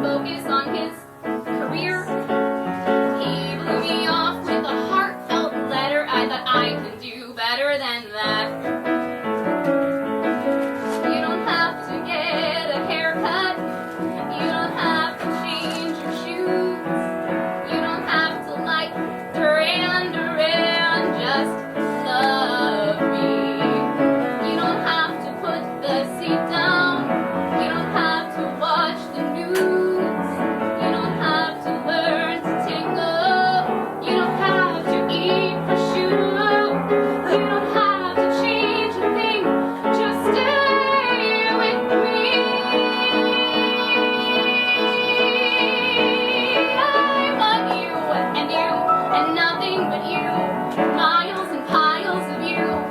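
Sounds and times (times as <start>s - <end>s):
woman singing with vibrato: 0.0s - 2.4s, 3.0s - 8.7s, 11.0s - 52.9s
piano accompaniment: 0.0s - 52.9s.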